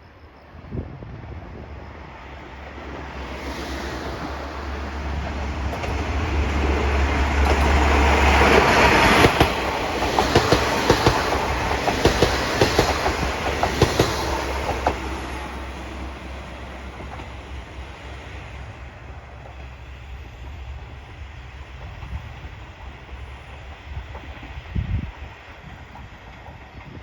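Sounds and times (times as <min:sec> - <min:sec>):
diesel train engine rumble: 0:00.0 - 0:27.0
train wheels clicking on rail joints: 0:01.1 - 0:27.0.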